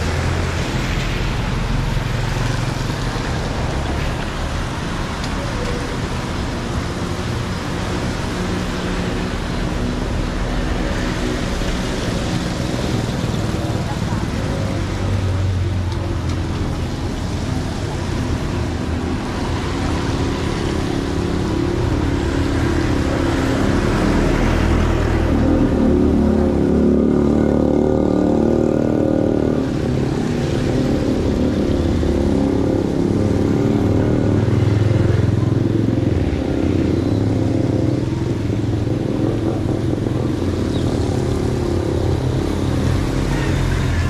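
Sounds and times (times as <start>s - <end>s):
motorcycles and cars passing: 0.0s - 44.0s.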